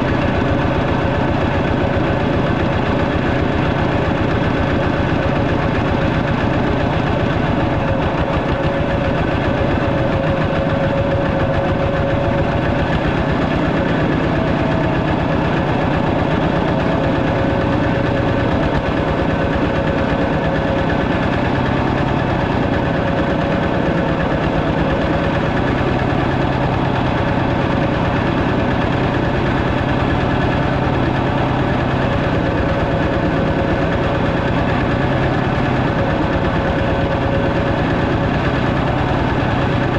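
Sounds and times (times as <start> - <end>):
walking tractor engine running: 0.0 - 39.9.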